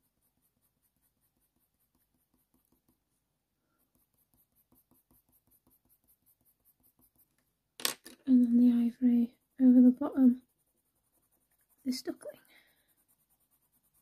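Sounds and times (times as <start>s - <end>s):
pencil scratching on paper: 0.0s - 7.5s, 8.3s - 14.0s.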